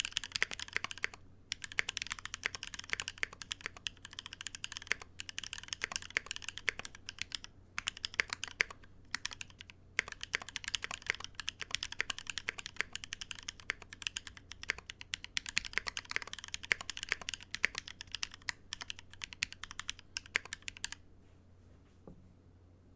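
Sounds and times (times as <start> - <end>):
mechanical keyboard typing: 0.0 - 21.0.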